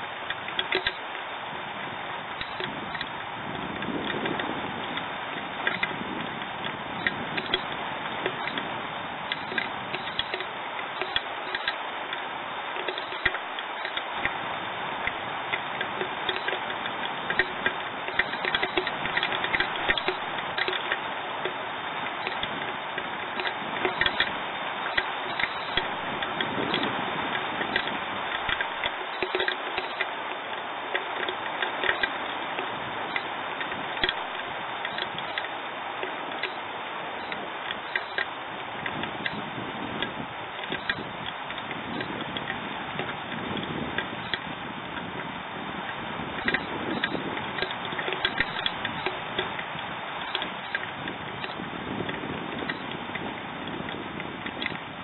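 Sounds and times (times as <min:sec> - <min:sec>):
rain hiss: 0:00.0 - 0:55.0
raindrops ticking close by: 0:00.0 - 0:55.0.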